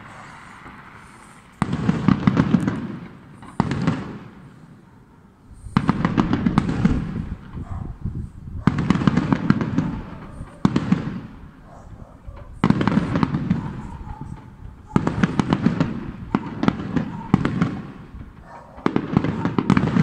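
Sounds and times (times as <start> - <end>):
fireworks bangs and crackling: 0.0 - 4.9, 5.5 - 20.0.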